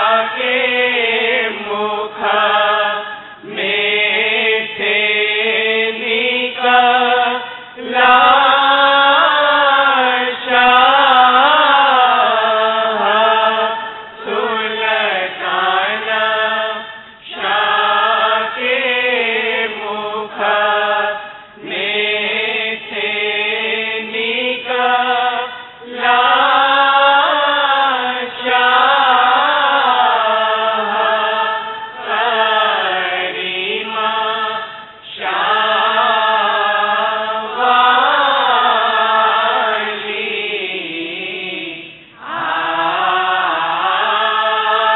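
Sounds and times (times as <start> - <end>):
person chanting a prayer: 0.0 - 44.9.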